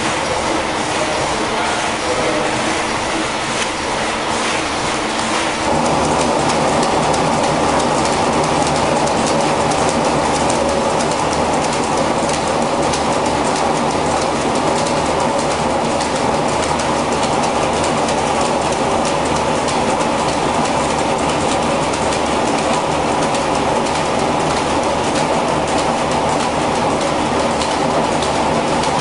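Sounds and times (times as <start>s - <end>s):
textile mill machinery clatter: 0.0s - 29.0s.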